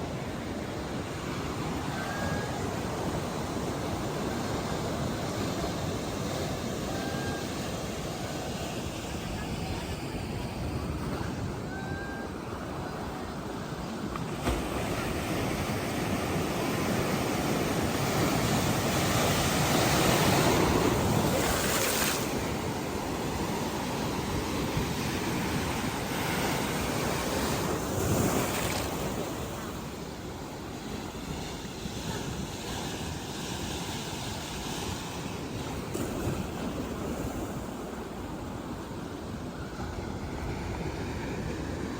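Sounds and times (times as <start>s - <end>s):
sea surf breaking on beach: 0.0s - 41.9s.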